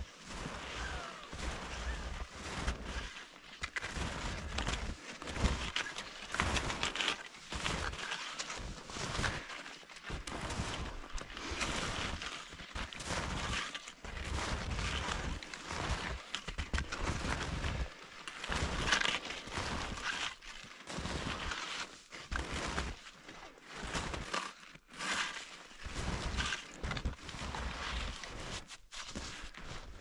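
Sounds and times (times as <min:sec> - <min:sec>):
footsteps crunching through snow: 0:00.0 - 0:30.0.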